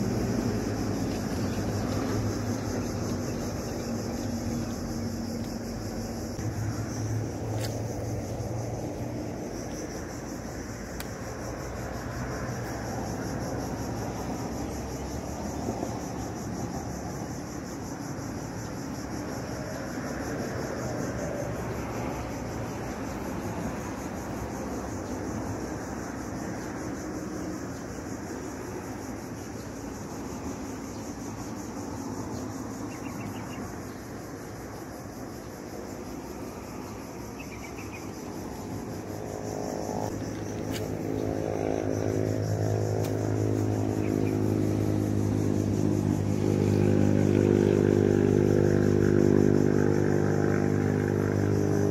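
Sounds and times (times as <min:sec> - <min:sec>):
engine approaching: 0:00.0 - 0:28.4, 0:38.3 - 0:51.9
insect drone: 0:00.0 - 0:51.9
outdoor background hum: 0:00.0 - 0:51.9.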